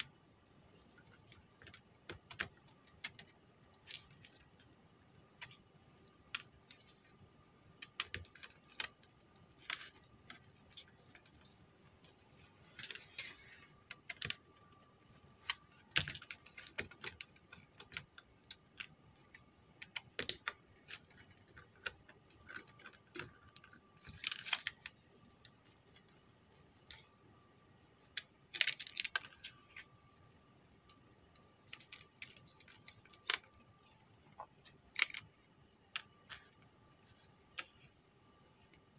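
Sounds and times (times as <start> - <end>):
screwdriver and plastic parts rattling: 0.7 - 7.2, 7.8 - 27.4, 28.0 - 38.9.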